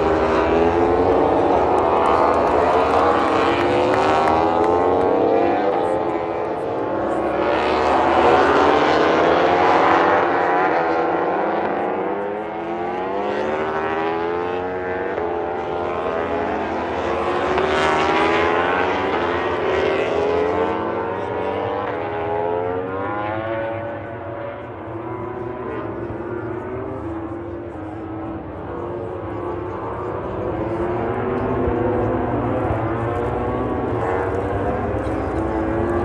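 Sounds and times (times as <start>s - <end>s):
racing motorcycle engines revving: 0.0s - 36.0s.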